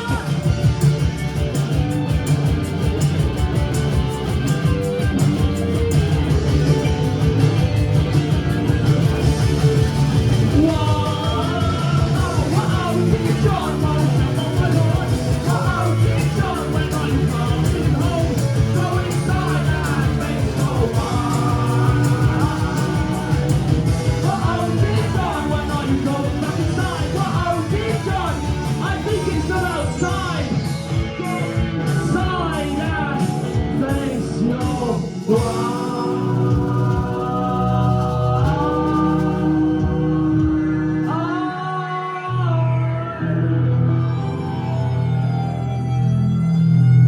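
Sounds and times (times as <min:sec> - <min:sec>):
live rock band playing: 0:00.0 - 0:42.2.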